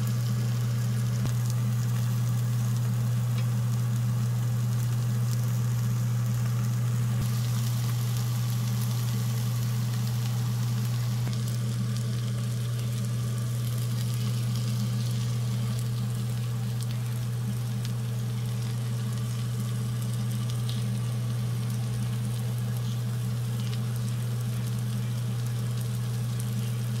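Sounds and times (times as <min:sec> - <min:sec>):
food sizzling in a frying pan: 0:00.0 - 0:27.0
steady low hum: 0:00.0 - 0:27.0
faint crackles: 0:00.3 - 0:27.0.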